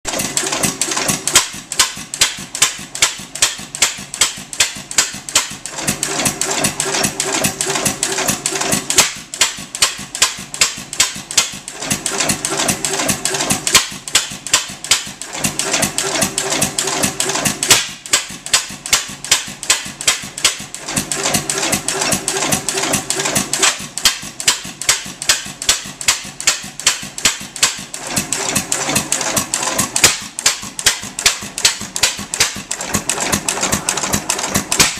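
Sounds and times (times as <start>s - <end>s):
gas engine clattering: 0.1s - 34.9s.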